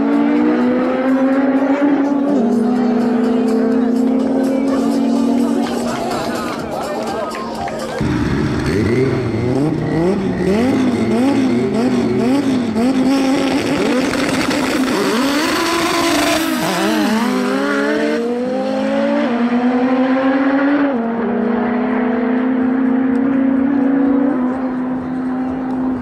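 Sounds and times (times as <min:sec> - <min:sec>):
drag racing engines revving: 0:00.0 - 0:06.7, 0:07.7 - 0:26.0.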